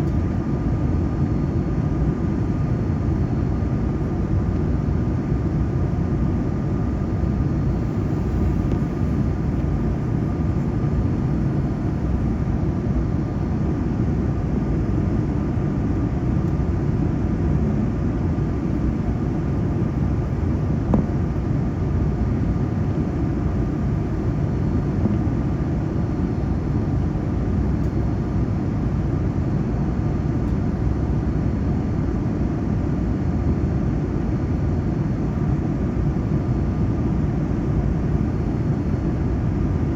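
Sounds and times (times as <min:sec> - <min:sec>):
airliner cabin engine rumble: 0:00.0 - 0:39.9
faint steady whine: 0:00.0 - 0:39.9.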